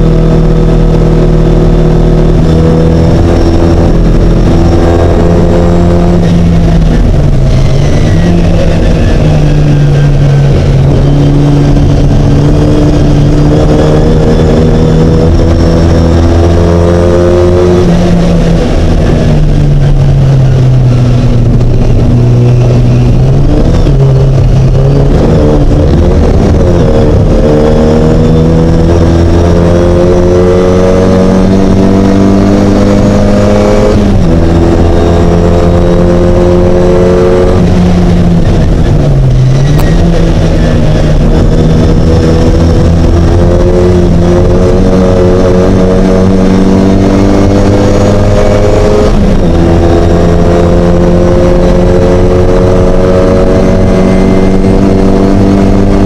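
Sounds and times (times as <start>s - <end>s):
car engine running hard: 0.0s - 56.0s.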